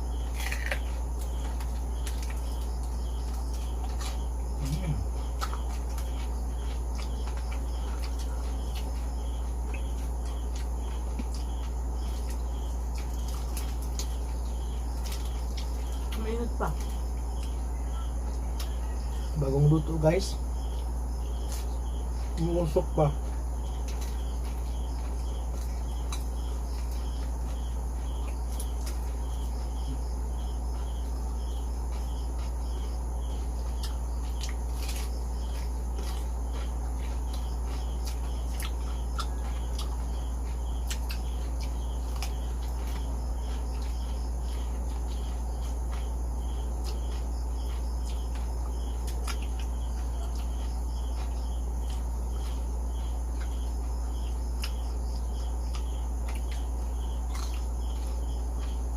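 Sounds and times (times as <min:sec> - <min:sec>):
crunchy food being chewed: 0:00.0 - 0:58.9
steady low hum: 0:00.0 - 0:58.9.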